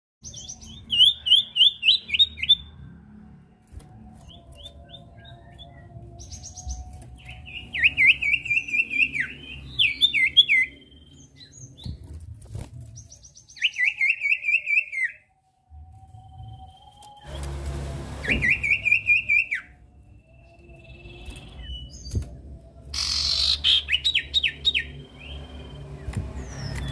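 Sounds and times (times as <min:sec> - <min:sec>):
bird singing sharp phrases: 0:00.2 - 0:02.8, 0:04.2 - 0:12.2, 0:12.9 - 0:15.3, 0:18.2 - 0:26.9.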